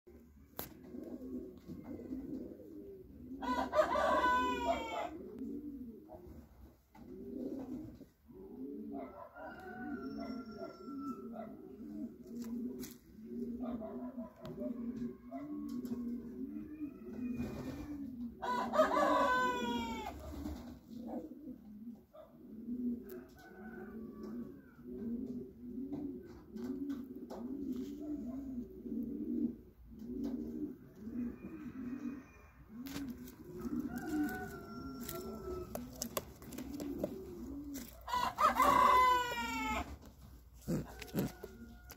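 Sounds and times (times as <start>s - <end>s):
pigeons cooing: 0.1s - 41.9s.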